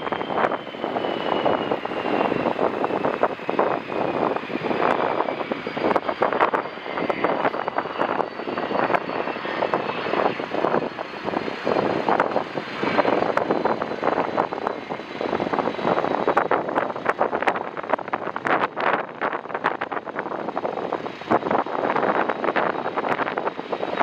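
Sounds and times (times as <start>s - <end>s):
jet engines whining: 0.0s - 24.0s
wind buffeting microphone: 0.0s - 24.0s.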